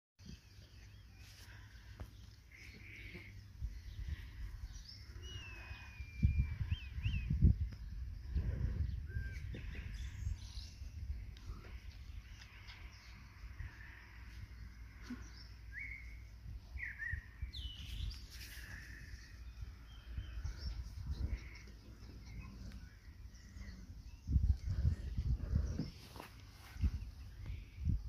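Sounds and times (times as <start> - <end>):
birds chirping: 0.2 - 28.0
low rumbling noise: 2.8 - 17.5, 18.6 - 28.0.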